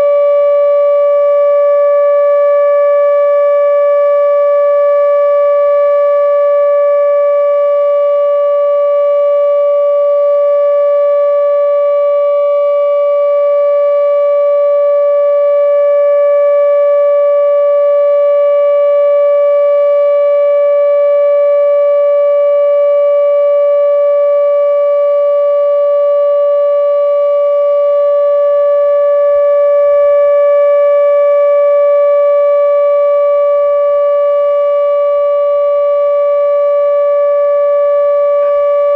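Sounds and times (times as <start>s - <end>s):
electronic siren steady tone: 0.0s - 38.9s.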